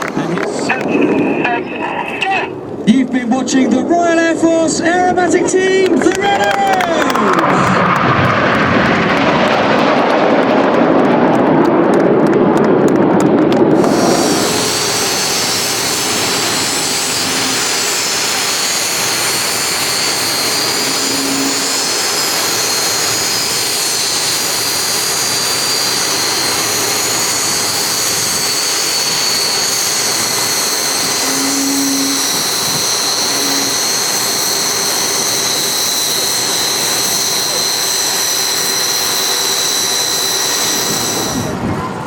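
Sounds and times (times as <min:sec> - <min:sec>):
jet engine running: 0:00.0 - 0:42.0.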